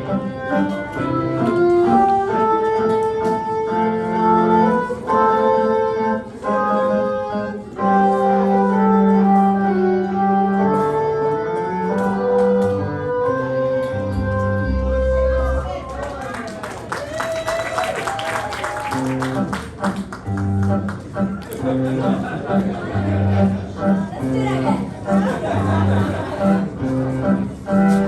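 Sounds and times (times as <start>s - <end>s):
organ-like keyboard melody: 0.0s - 15.8s, 18.9s - 28.0s.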